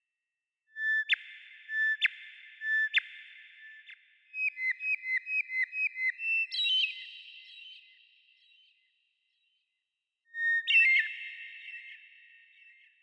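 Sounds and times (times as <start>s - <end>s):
bird whistling song: 0.7s - 8.9s, 10.3s - 13.0s.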